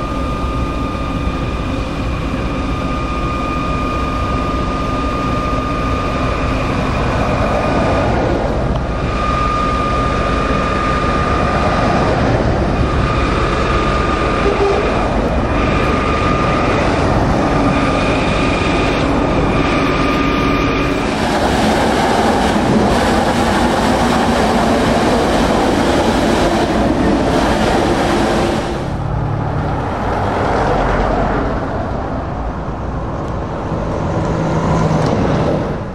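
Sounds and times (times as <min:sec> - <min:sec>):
high whine: 0:00.0 - 0:35.9
heavy trucks driving past: 0:05.8 - 0:35.9.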